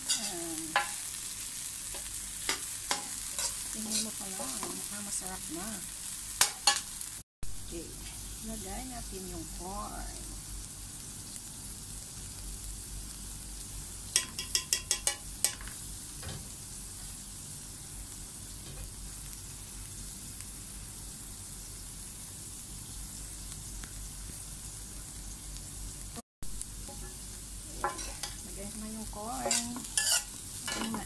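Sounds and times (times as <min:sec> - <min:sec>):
rice sizzling in metal pan: 0:00.0 - 0:31.0.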